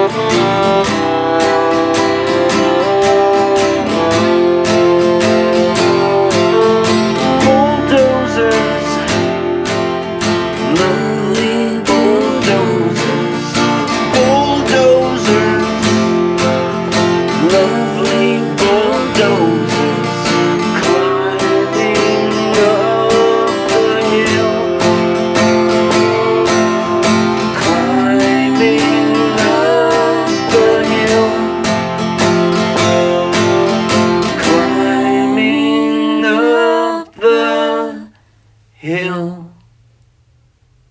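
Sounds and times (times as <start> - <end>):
violin playing sliding notes: 0.0 - 35.2
strummed acoustic guitar: 0.0 - 39.5.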